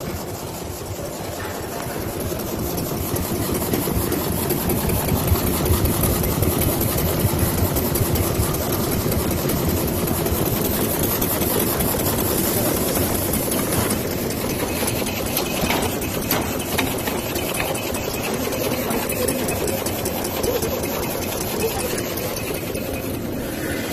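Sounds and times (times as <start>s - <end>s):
cutting machine clattering: 0.0s - 23.4s.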